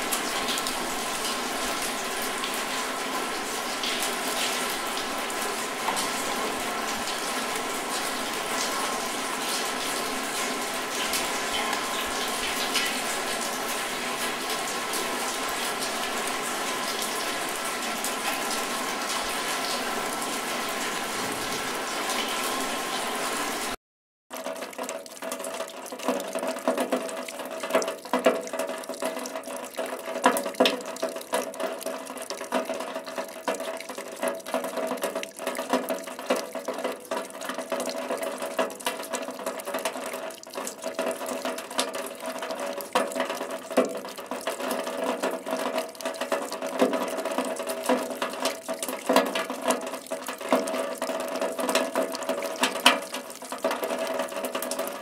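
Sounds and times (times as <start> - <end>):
rain falling: 0.0 - 23.8, 24.4 - 55.0
raindrops spattering: 0.0 - 55.0.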